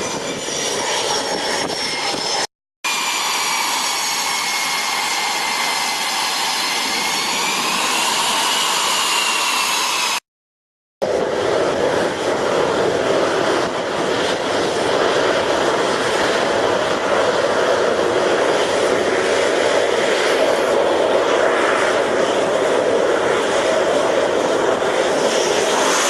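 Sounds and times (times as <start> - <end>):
jet engines roaring: 0.0 - 10.2, 11.0 - 26.0.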